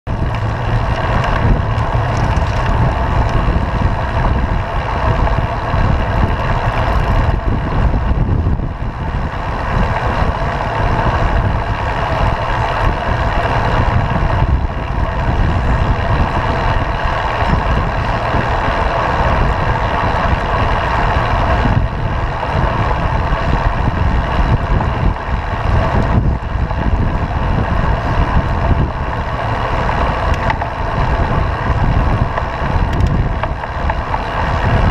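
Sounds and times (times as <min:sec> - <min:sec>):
bicycle road noise: 0:00.1 - 0:34.9
wind rumble: 0:00.1 - 0:34.9.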